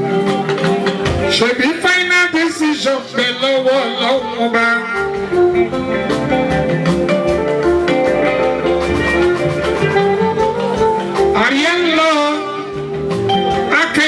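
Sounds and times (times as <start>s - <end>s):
live band instrumental lines: 0.0s - 14.0s
steady percussion beat: 0.0s - 14.0s.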